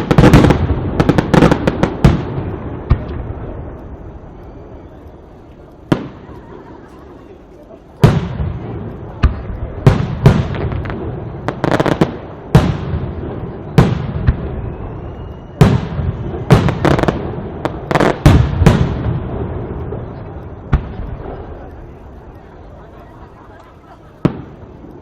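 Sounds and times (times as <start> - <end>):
rumble of fireworks show: 0.0 - 25.0.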